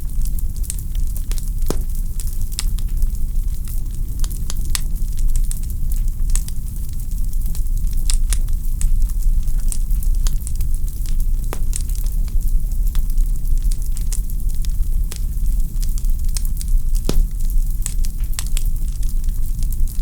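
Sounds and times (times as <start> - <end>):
low rumble of flames: 0.0 - 20.0
logs crackling and popping: 0.2 - 6.5, 7.5 - 20.0.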